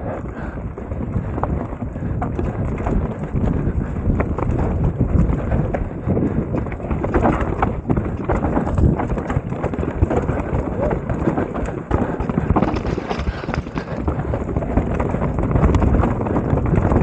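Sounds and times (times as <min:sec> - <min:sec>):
bike rattling and knocking: 0:00.0 - 0:17.0
bike tyres rumbling on trail: 0:00.0 - 0:17.0.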